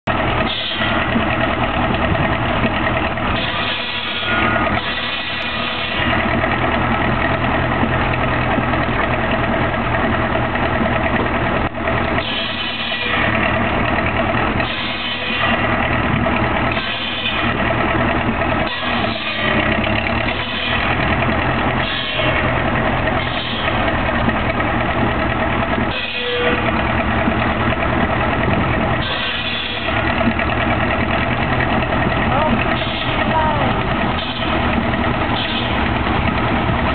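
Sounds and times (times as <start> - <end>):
steam traction engine running: 0.0 - 36.9.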